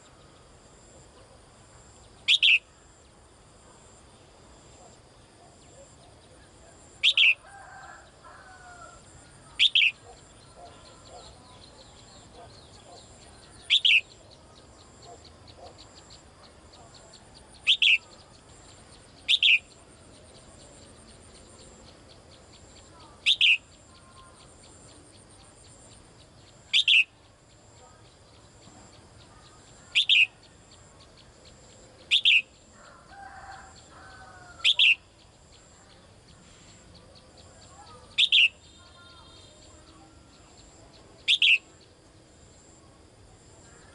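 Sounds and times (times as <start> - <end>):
soft bird chirps: 2.1 - 2.7, 4.8 - 42.9.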